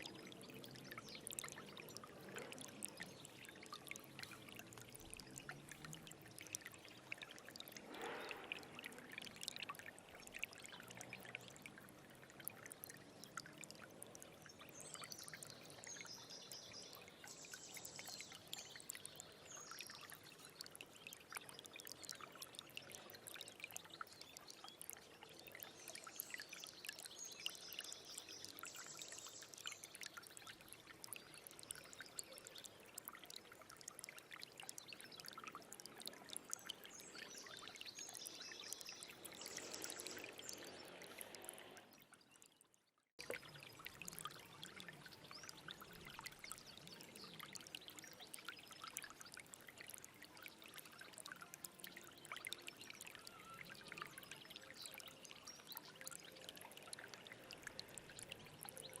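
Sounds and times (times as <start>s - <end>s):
stream running and splashing: 0.0s - 59.0s.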